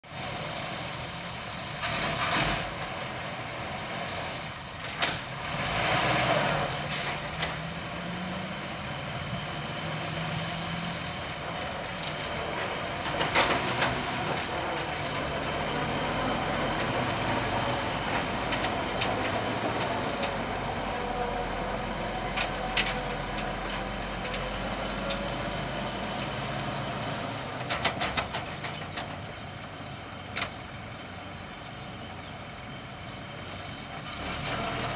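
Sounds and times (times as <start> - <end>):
truck engine running: 0.1 - 34.9.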